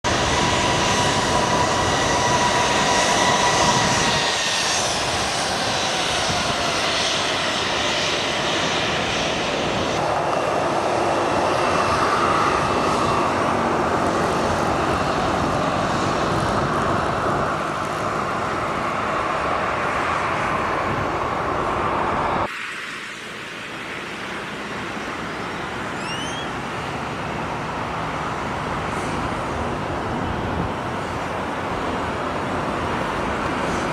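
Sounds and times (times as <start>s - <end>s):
jet engine whine: 0.0s - 33.9s
jet engines running: 0.1s - 33.9s.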